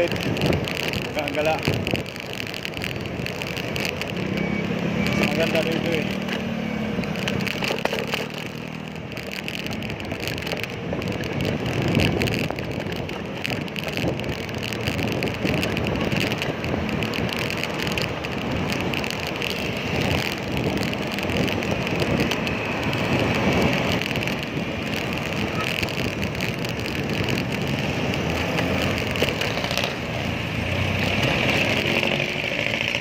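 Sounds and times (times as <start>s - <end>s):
motor traffic: 0.0s - 33.0s
wind and road noise: 0.0s - 33.0s.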